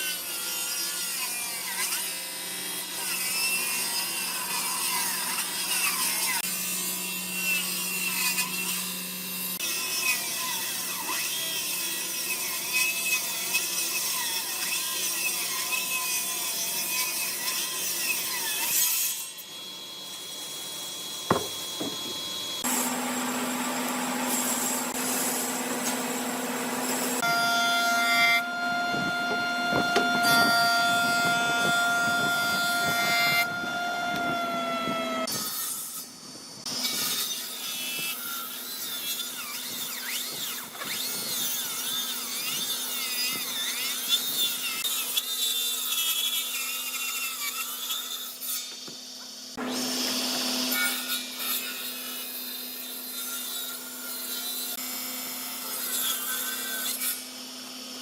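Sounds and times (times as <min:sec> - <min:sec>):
power saw cutting wood: 0:00.0 - 0:58.0.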